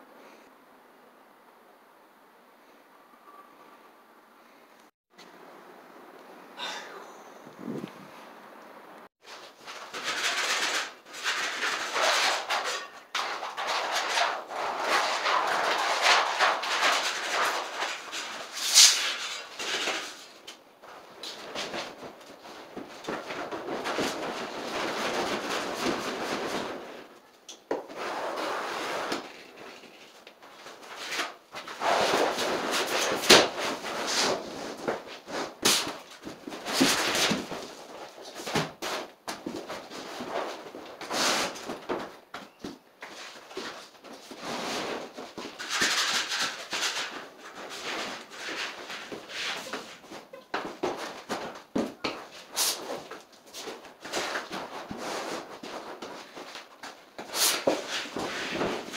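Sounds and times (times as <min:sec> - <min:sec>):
plastic sheet rustling and scraping: 0:09.2 - 0:58.9.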